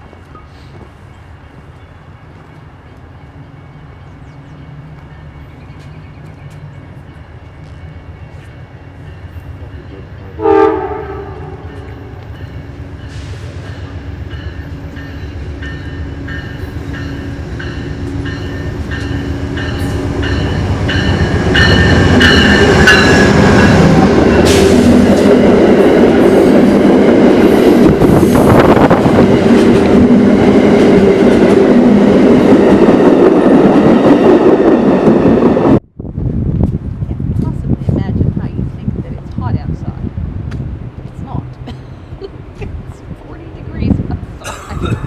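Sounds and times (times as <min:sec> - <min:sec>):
train passing with wheel noise: 0:00.0 - 0:45.0.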